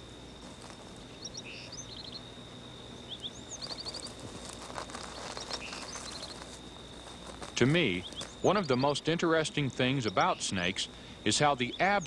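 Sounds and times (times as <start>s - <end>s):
steady high-pitched whine: 0.0s - 12.0s
small birds chirping: 0.1s - 12.0s.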